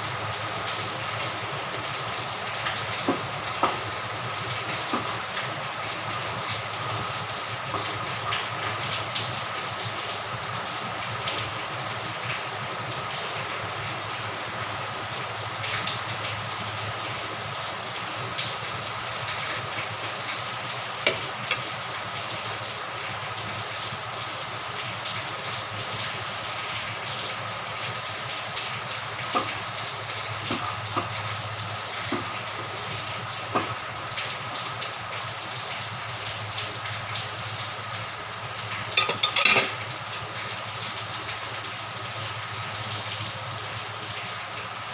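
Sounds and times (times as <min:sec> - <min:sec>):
soup bubbling and sizzling: 0:00.0 - 0:44.9.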